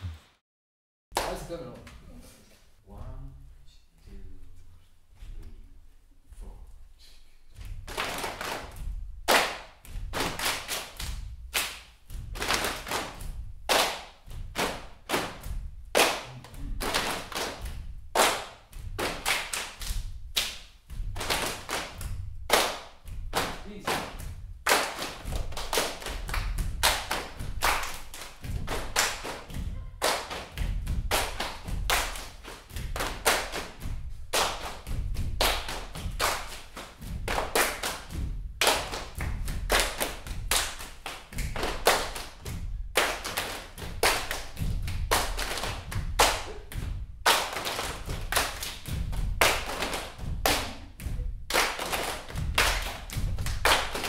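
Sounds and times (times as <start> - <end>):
people clapping: 1.2 - 1.6, 7.6 - 54.0.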